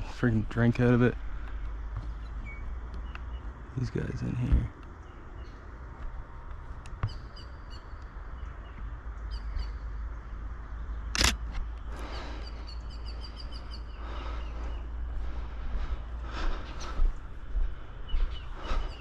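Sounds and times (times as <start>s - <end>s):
small birds chirping: 0.0s - 11.1s, 11.7s - 19.0s
steady low rumble: 0.0s - 19.0s.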